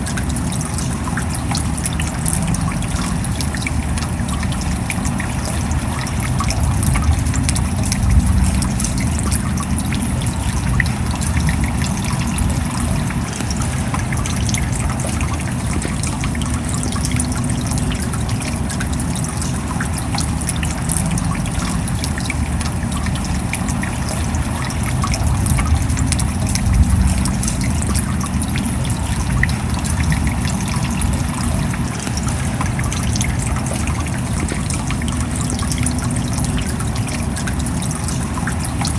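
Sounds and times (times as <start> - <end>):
rain patter: 0.0 - 38.9
running water rushing: 0.0 - 38.9.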